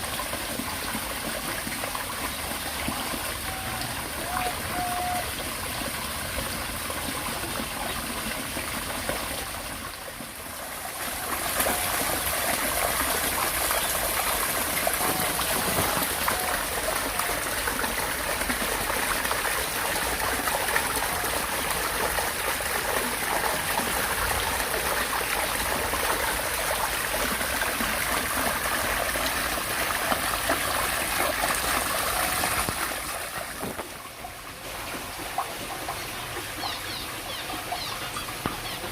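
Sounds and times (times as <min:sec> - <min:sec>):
running water splashing: 0:00.0 - 0:38.9.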